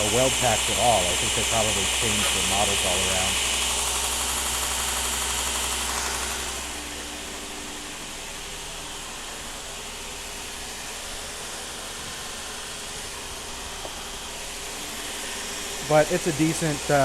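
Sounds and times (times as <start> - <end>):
fans hissing: 0.0 - 17.0.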